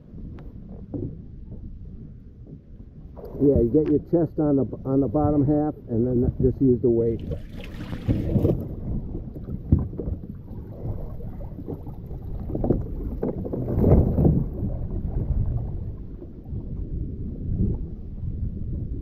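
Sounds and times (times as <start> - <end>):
wind rumbling on microphone: 0.0 - 19.0
water splashing against kayak: 0.1 - 5.4, 6.2 - 19.0.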